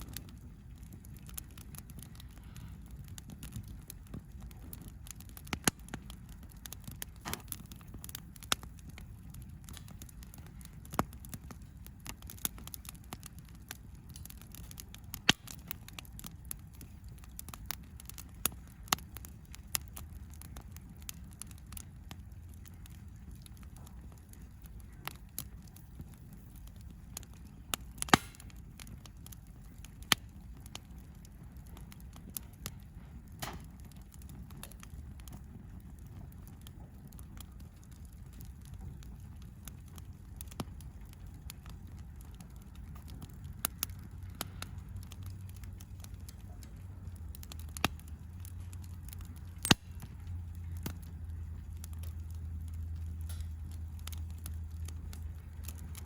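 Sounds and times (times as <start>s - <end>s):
low steady rumble: 0.0s - 56.0s
sharp pops of fire: 0.0s - 56.0s
wood fire crackling: 0.0s - 56.0s.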